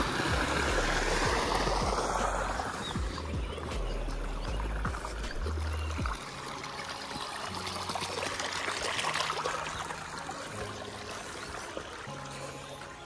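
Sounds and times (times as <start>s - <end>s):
water trickling in a channel: 0.0s - 13.0s.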